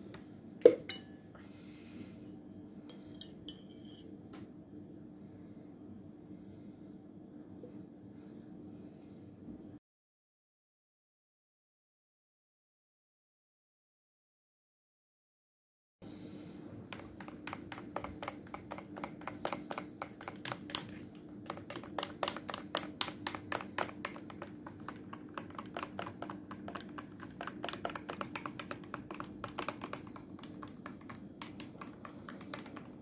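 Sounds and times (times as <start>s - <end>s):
steady low hum: 0.0s - 9.8s, 16.0s - 33.0s.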